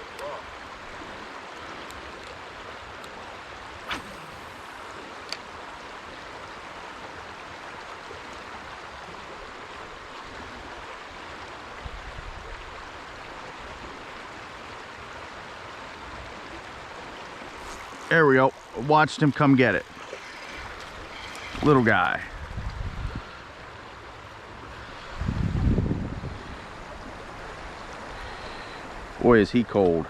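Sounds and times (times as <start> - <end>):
creek water running: 0.0 - 25.4.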